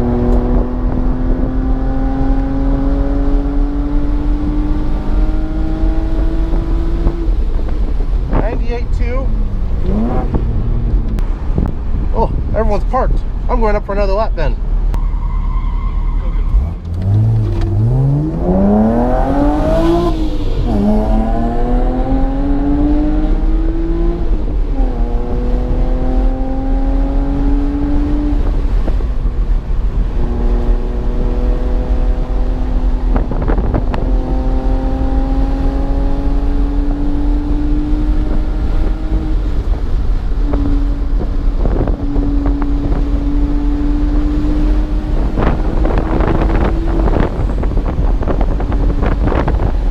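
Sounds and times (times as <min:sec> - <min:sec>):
car engine accelerating: 0:00.0 - 0:13.7, 0:14.5 - 0:49.9
road and wind rumble: 0:00.0 - 0:49.9.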